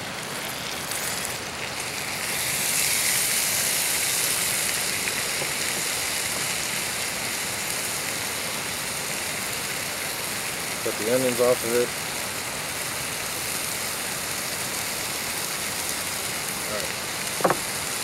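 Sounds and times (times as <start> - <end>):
steak sizzling in a skillet: 0.0 - 18.0.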